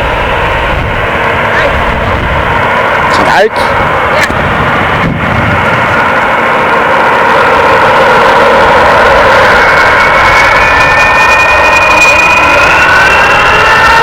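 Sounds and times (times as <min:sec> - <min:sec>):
high jet engine whine: 0:00.0 - 0:14.0
jet engine roar: 0:00.0 - 0:14.0.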